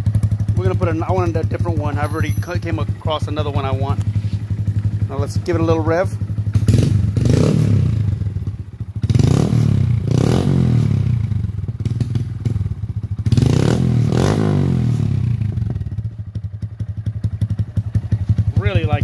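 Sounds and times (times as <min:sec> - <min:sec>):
motorcycle engine idling: 0:00.0 - 0:19.0
motorcycle engine revving: 0:00.0 - 0:19.0.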